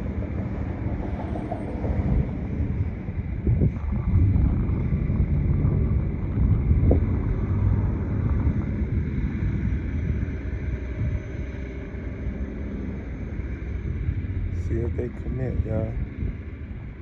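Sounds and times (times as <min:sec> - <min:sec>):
steady low rumble: 0:00.0 - 0:17.0
wind buffeting microphone: 0:00.0 - 0:17.0.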